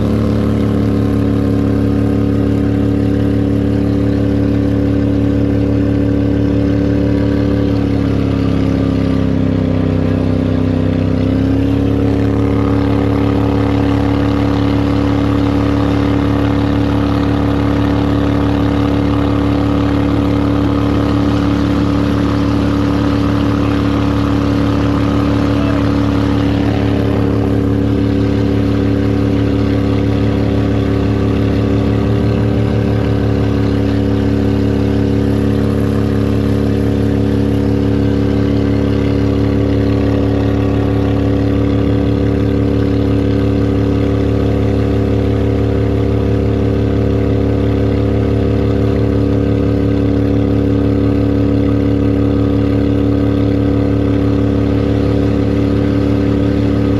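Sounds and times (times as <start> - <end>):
boat motor running steadily: 0.0 - 56.9.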